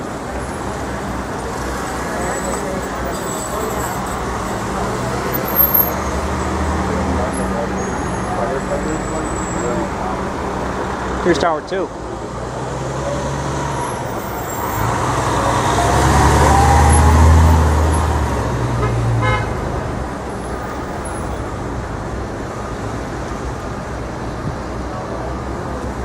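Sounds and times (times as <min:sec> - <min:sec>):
heavy vehicle engine rumble: 0:00.0 - 0:26.0
street traffic: 0:00.0 - 0:26.0.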